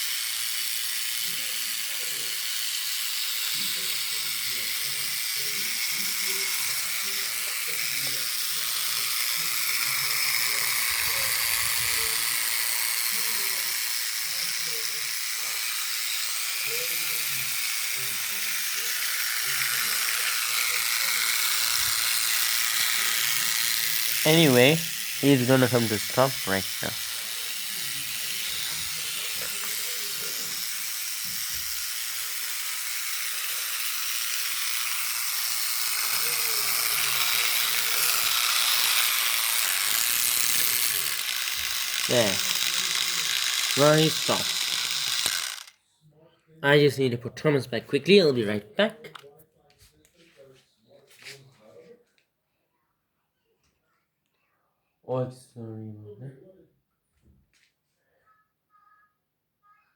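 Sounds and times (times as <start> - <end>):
toy train motor whirring: 0.0 - 45.8, 46.7 - 49.3.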